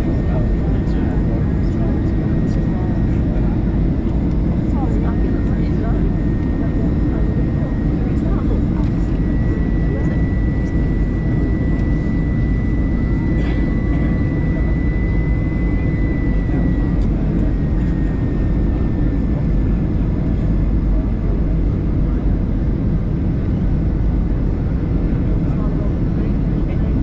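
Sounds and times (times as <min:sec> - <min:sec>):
aircraft cabin airflow rush: 0:00.0 - 0:27.0.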